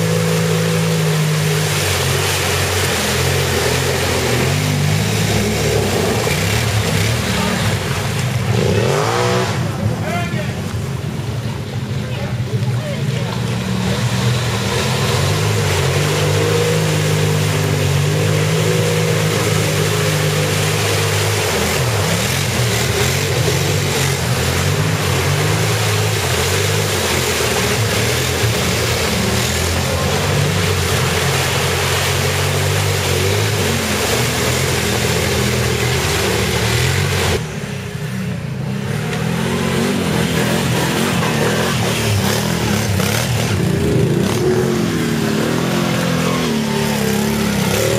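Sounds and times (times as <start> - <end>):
atv engines revving: 0.0 - 47.9
spray and sloshing mud: 0.0 - 47.9.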